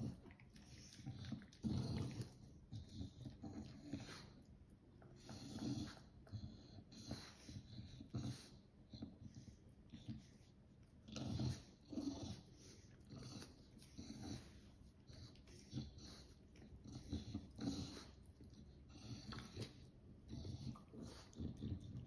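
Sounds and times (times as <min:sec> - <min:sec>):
dogs breathing noisily: 0:00.0 - 0:22.0.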